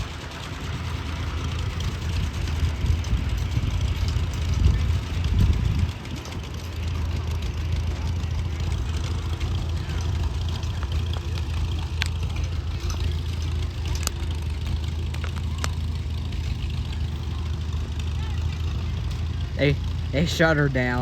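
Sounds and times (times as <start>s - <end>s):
engine idling: 0.0s - 21.0s
sharp clicks: 0.0s - 21.0s.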